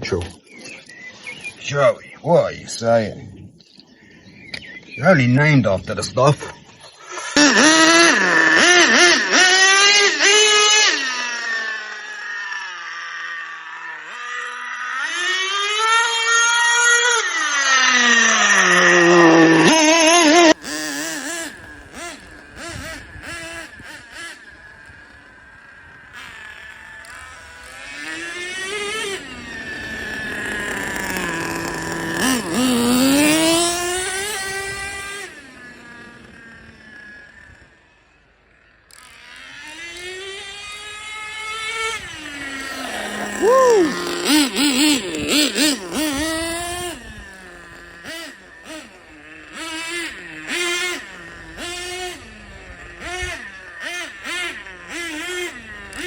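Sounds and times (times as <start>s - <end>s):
engine throttle blips: 0.0s - 56.0s
rc truck engine at high revs: 5.8s - 56.0s.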